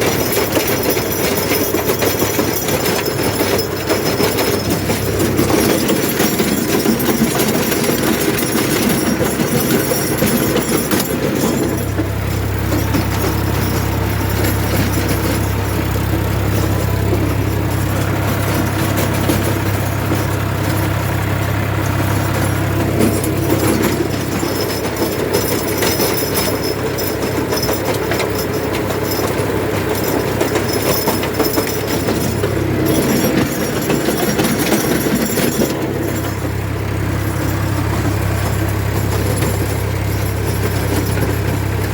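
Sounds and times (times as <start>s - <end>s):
rotary tiller clatter: 0.0s - 41.9s
tractor diesel engine: 0.0s - 41.9s.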